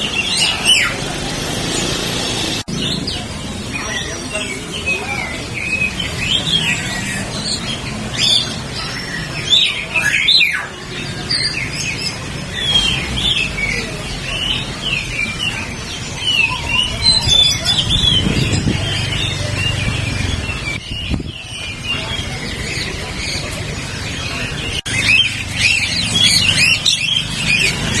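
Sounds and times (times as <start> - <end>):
murmur of voices: 0.0 - 28.0
songbirds chirping: 0.0 - 28.0.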